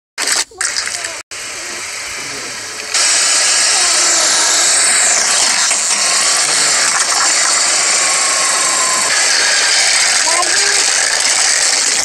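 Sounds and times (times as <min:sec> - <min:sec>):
loud steady hissing: 0:00.2 - 0:12.0.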